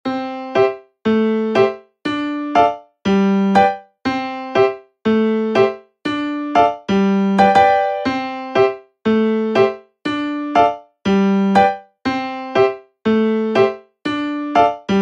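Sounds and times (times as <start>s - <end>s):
plucky keyboard tune: 0.1s - 15.0s.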